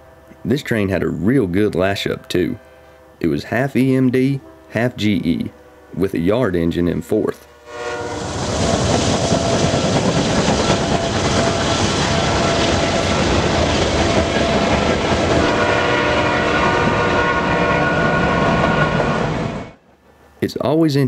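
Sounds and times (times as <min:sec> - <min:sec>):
steady high tone: 0:00.0 - 0:19.8
freight train passing: 0:00.0 - 0:20.8.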